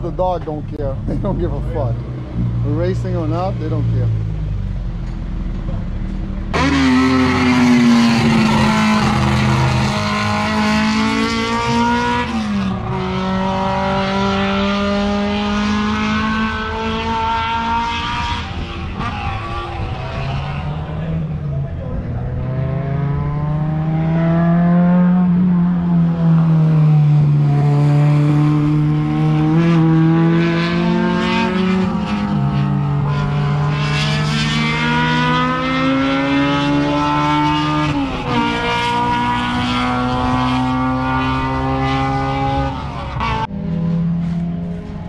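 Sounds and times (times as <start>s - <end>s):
race car engine accelerating: 0.0s - 45.0s.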